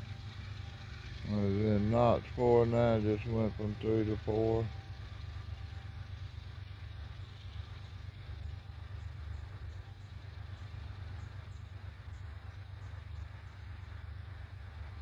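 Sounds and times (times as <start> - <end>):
locomotive rumbling under load: 0.0 - 15.0.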